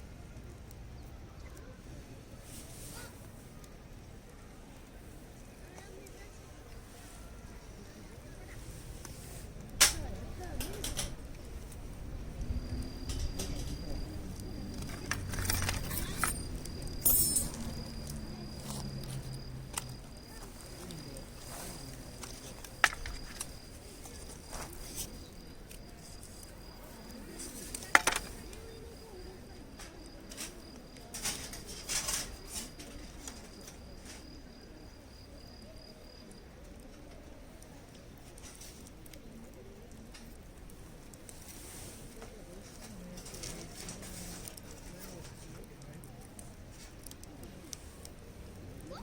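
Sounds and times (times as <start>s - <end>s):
firewood crackling and popping: 0.2s - 34.4s, 36.2s - 49.0s.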